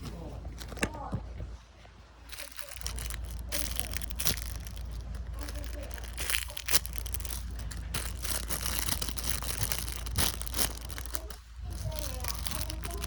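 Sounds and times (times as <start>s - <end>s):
crinkling and rustling: 0.0s - 13.0s
sharp clicks and crackles: 2.3s - 13.0s.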